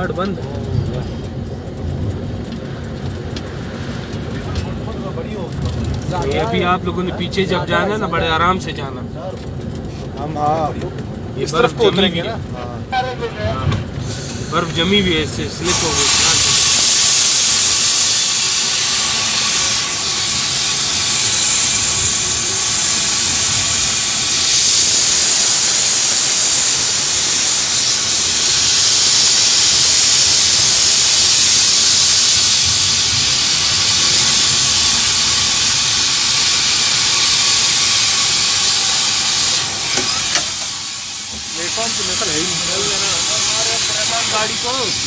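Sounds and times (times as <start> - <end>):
train running noise: 0.0 - 45.0.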